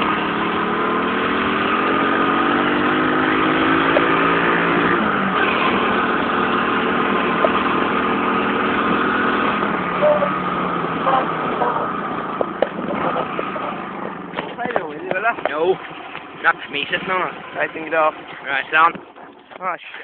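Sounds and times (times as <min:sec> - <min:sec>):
motorbike engine running: 0:00.0 - 0:19.6.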